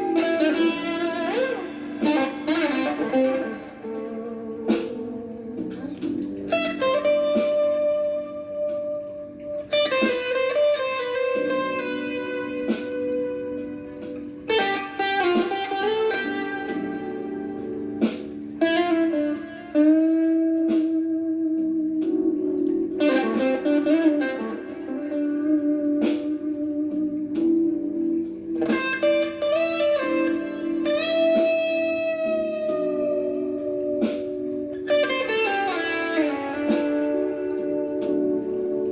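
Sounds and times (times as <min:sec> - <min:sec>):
electric guitar blues lead: 0:00.0 - 0:38.9.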